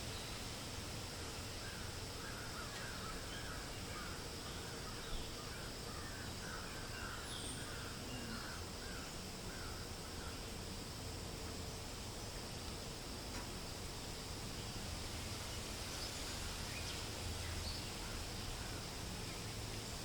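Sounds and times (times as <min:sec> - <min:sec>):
wind in trees: 0:00.0 - 0:20.0.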